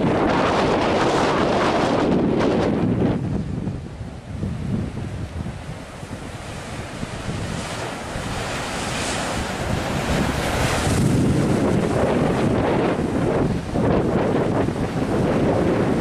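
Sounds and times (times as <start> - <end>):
ocean waves crashing: 0.0 - 16.0
wind buffeting microphone: 0.0 - 16.0.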